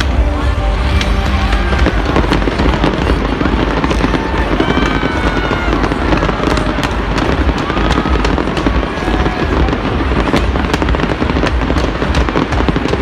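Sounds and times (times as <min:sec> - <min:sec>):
fireworks booming: 0:00.0 - 0:13.0
fireworks popping and crackling: 0:00.0 - 0:13.0.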